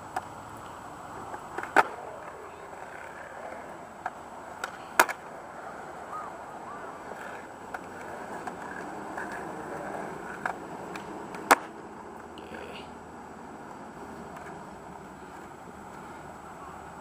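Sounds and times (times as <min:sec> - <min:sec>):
skateboard clacks: 0:00.0 - 0:12.3, 0:13.6 - 0:17.0
skateboard wheels rolling on concrete: 0:00.0 - 0:17.0.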